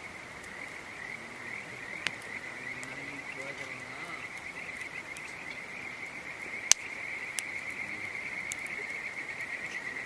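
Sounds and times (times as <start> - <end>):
campfire crackling and popping: 0.0 - 10.0
frogs or insects trilling: 0.0 - 10.0.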